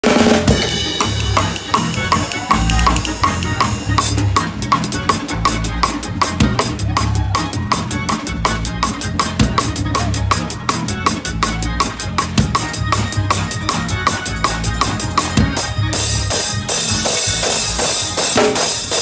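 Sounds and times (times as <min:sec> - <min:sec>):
drum kit groove: 0:00.0 - 0:19.0
deep bass: 0:00.4 - 0:18.2.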